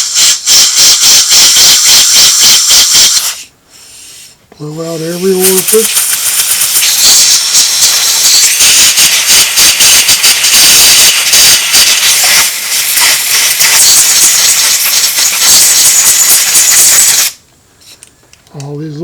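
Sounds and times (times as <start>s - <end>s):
compressed air hissing from blow gun: 0.0s - 18.0s.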